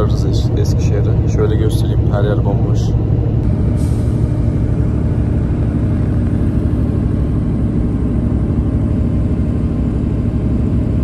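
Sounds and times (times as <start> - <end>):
coach engine and road drone: 0.0 - 11.0.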